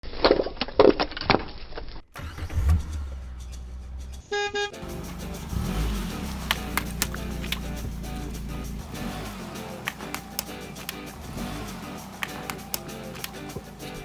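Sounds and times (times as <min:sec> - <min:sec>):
car engine running: 0:02.2 - 0:14.0
sharp cracks: 0:02.2 - 0:14.0.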